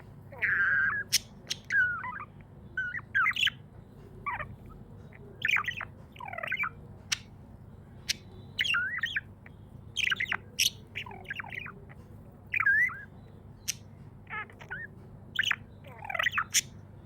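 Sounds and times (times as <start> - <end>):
budgerigar chirping: 0.0 - 7.3, 7.9 - 16.8
steady low hum: 0.0 - 17.0.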